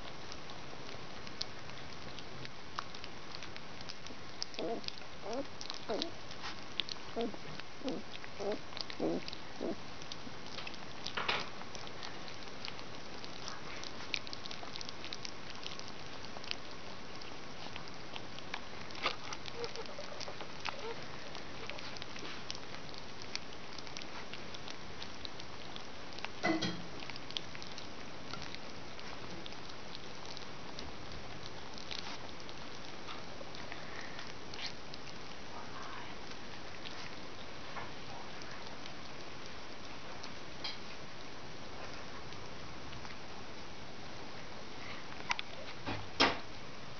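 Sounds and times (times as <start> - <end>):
puppies lapping food: 0.0 - 46.9.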